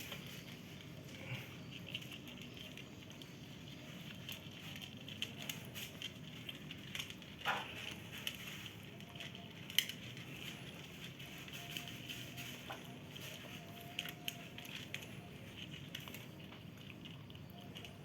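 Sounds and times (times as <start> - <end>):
cats chewing and lapping food: 0.0 - 18.0.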